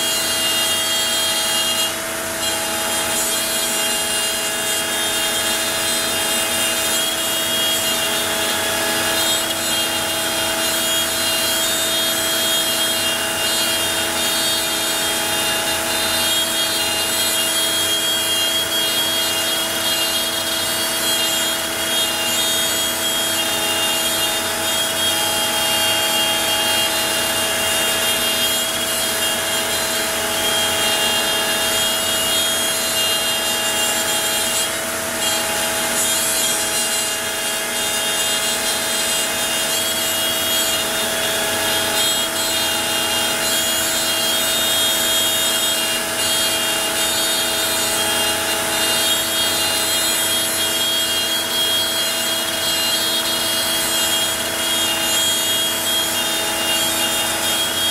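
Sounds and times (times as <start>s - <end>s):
router motor high whine: 0.0s - 57.9s
spinning bit cutting wood: 0.0s - 57.9s.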